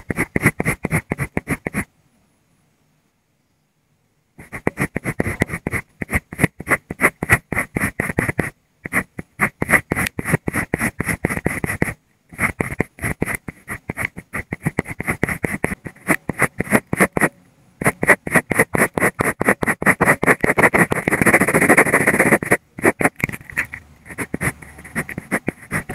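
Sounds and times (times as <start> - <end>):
pencil scratching on paper: 0.0 - 1.9, 4.4 - 25.9.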